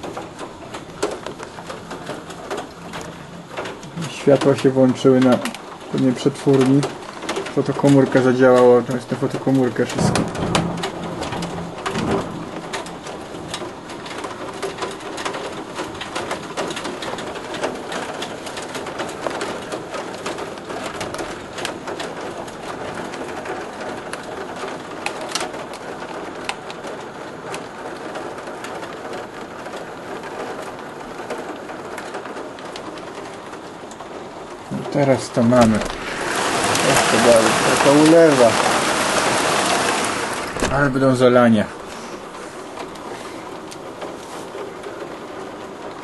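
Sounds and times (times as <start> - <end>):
hailstones striking window: 0.0 - 46.0
heavy rain with hail: 0.0 - 46.0.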